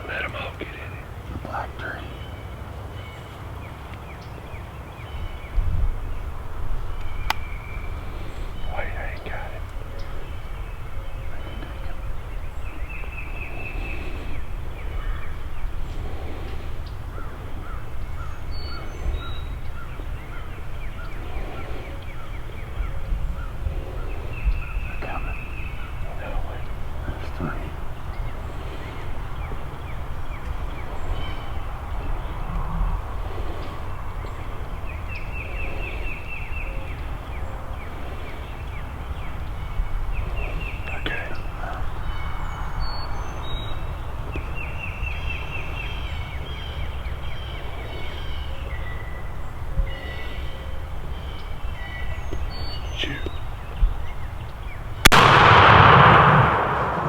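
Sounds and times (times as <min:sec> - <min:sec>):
bird calling: 0:00.0 - 0:57.0
low wind rumble: 0:00.0 - 0:57.0.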